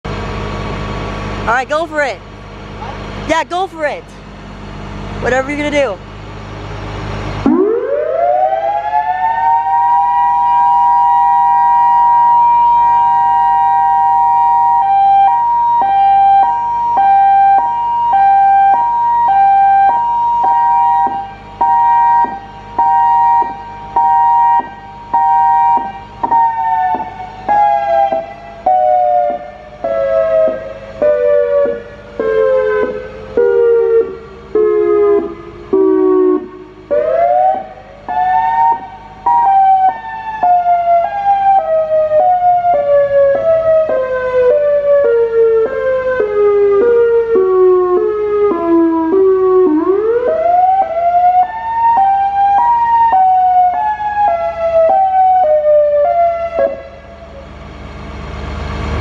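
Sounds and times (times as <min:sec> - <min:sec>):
continuous siren tone: 0:00.1 - 0:59.0
pulsed siren tone stepping down: 0:06.3 - 0:59.0.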